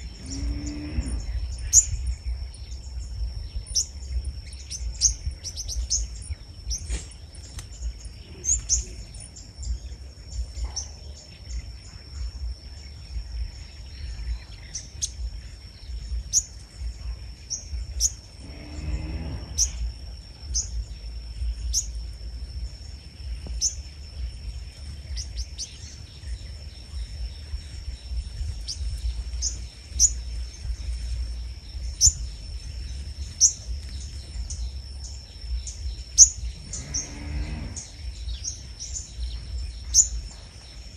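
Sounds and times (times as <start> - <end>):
small birds chirping: 0.0 - 40.9
wind rumble on microphone: 0.0 - 40.9.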